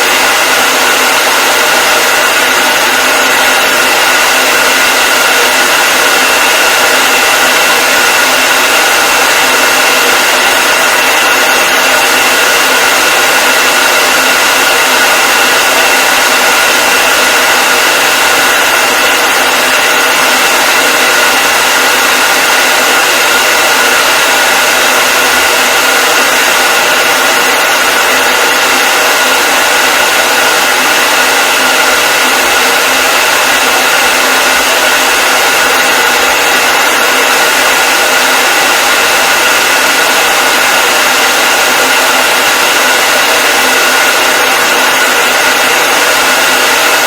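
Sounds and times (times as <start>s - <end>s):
hair dryer running: 0.0s - 47.0s.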